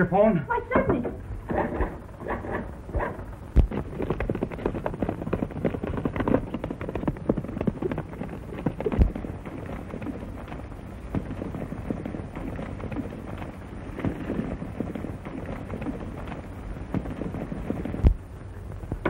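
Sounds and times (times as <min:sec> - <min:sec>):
horse galloping hoofbeats: 0:01.5 - 0:19.0.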